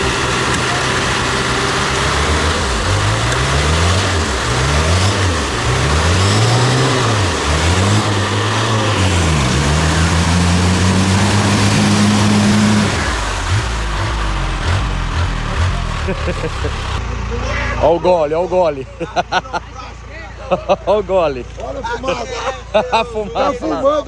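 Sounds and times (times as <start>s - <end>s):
off-road engine revving: 0.0s - 24.0s.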